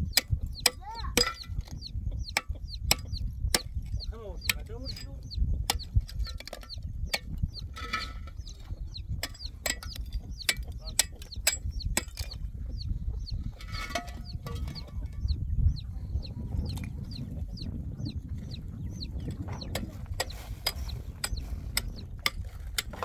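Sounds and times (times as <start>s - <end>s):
chicks peeping: 0.0s - 6.0s, 6.6s - 22.9s.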